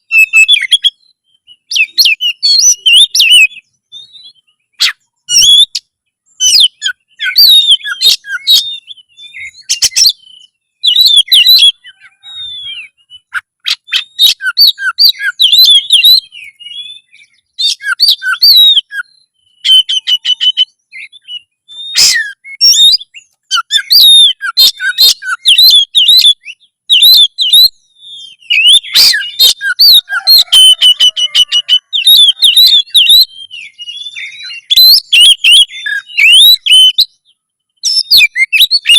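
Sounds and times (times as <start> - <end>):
bird singing chirps and whistles: 0.0 - 38.9.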